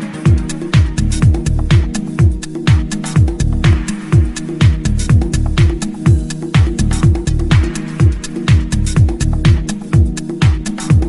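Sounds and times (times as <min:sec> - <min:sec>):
bass line: 0:00.0 - 0:11.0
kick drum: 0:00.0 - 0:11.0
ticking hi-hats: 0:00.0 - 0:11.0
upbeat background music: 0:00.0 - 0:11.0.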